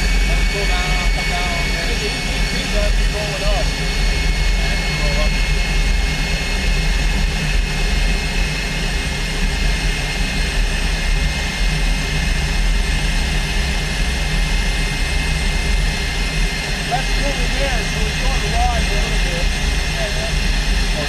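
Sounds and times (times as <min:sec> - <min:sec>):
jet engine turbine whine: 0:00.0 - 0:21.0.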